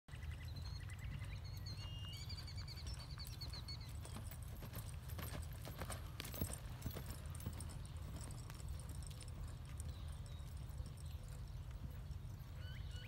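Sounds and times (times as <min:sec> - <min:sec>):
horse hoofbeats on dirt: 0:00.2 - 0:13.0.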